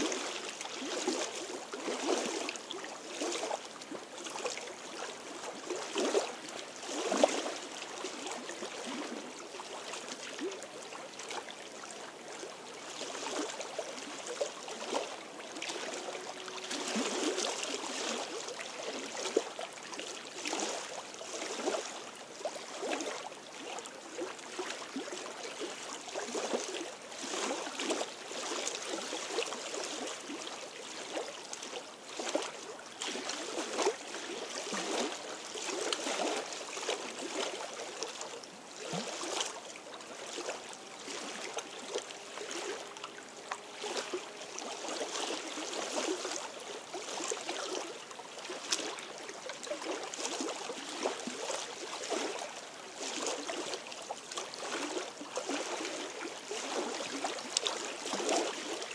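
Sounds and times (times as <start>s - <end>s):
waves lapping against stones: 0.0s - 58.9s.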